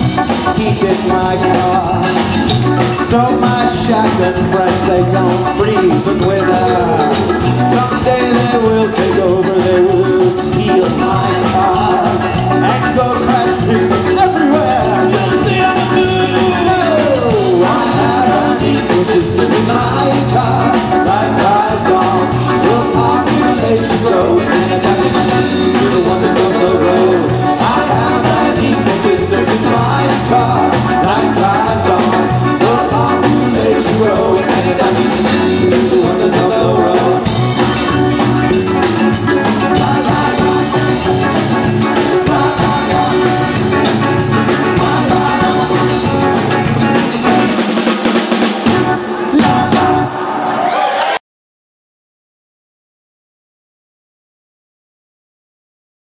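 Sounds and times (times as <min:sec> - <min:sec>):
person singing: 0:00.0 - 0:47.7
live band playing: 0:00.0 - 0:51.2.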